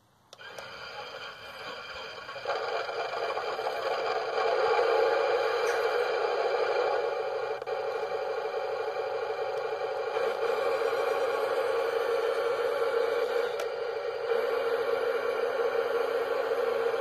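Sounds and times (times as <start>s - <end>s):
gearbox motor whine: 0.3s - 17.0s
toy tank engine noise: 0.3s - 17.0s.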